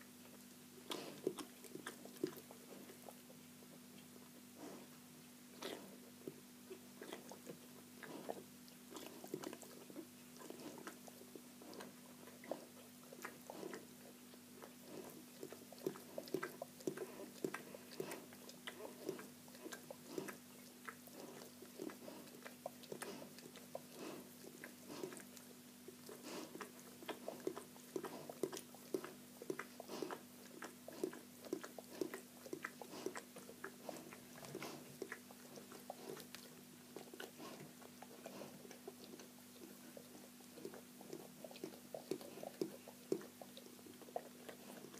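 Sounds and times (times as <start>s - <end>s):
dog licking puppies: 0.0s - 44.9s.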